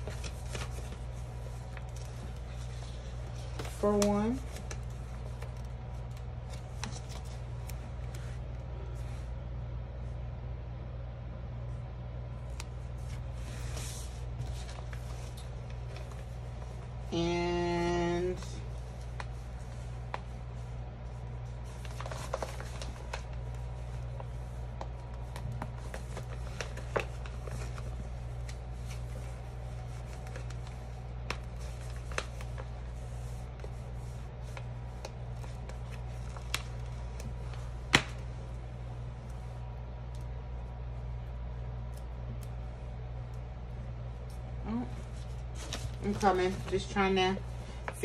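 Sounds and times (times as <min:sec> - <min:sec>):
rustling of supplies by hand: 0:00.0 - 0:09.4, 0:12.7 - 0:39.6, 0:44.3 - 0:48.0
steady low hum: 0:00.0 - 0:48.0.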